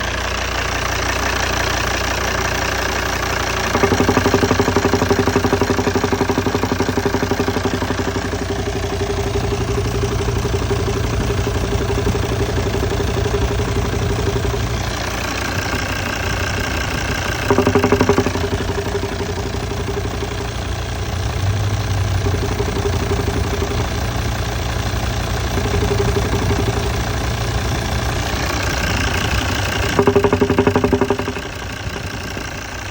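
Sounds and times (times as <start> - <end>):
diesel engine idling: 0.0 - 32.9
rhythmic engine knock: 0.0 - 32.9.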